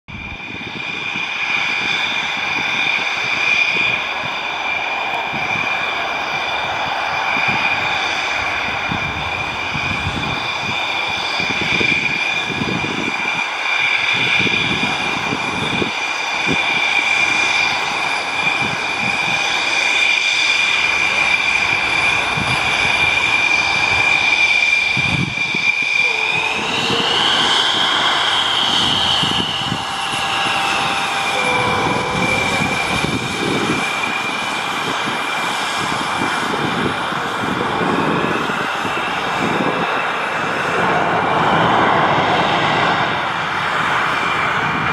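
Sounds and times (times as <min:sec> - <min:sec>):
jet engine whine: 0:00.1 - 0:44.9
low jet engine rumble: 0:00.1 - 0:44.9.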